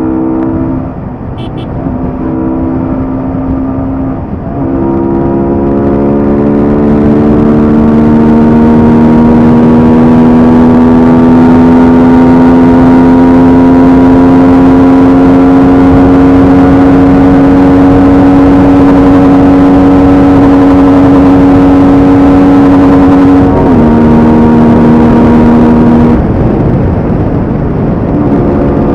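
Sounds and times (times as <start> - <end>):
motorcycle engine revving high: 1.4 - 28.9.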